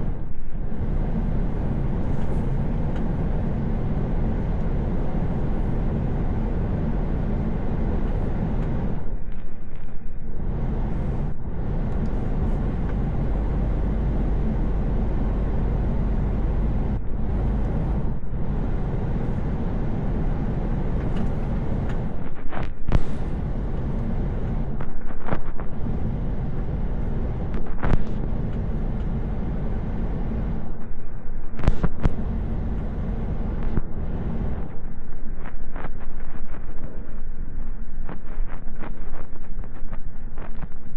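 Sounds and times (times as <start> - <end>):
truck engine and road rumble: 0.0 - 40.9.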